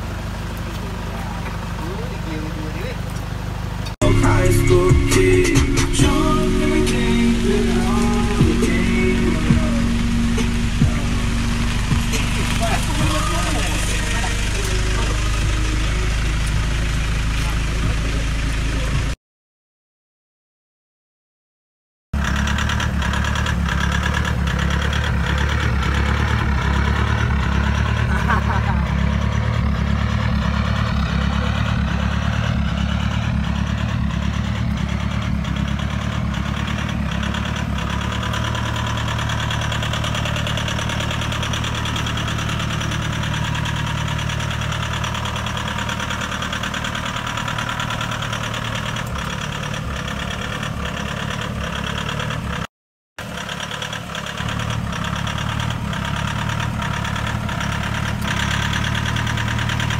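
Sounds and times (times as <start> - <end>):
diesel engine idling: 0.0 - 19.2, 22.2 - 59.9.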